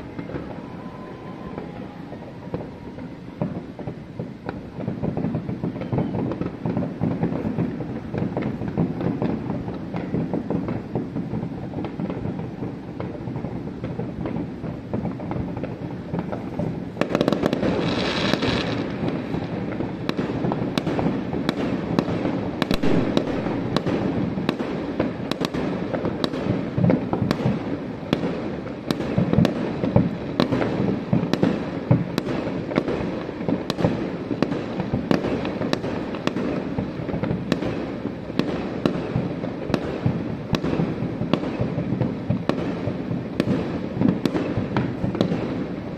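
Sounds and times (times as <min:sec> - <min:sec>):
fireworks booms and crackling bangs: 0:00.0 - 0:45.9.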